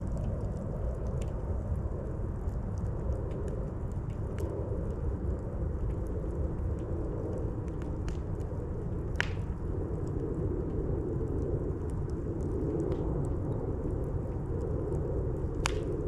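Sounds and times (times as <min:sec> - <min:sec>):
campfire rumble: 0:00.0 - 0:16.0
fire crackles and pop: 0:00.0 - 0:16.0.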